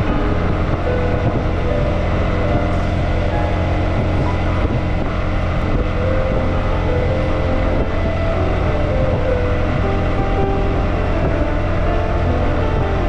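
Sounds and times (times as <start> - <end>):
vehicle engine and road noise: 0.0 - 13.0
wind noise on microphone: 0.0 - 13.0.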